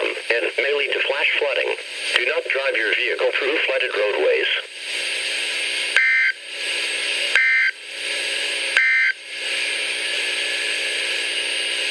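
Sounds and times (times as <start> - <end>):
radio static hiss: 0.0 - 11.9.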